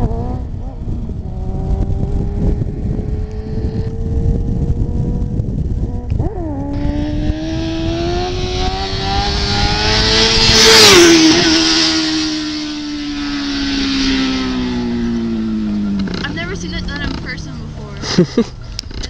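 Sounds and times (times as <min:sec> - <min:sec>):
motorcycle engine passing by: 0:00.0 - 0:18.0.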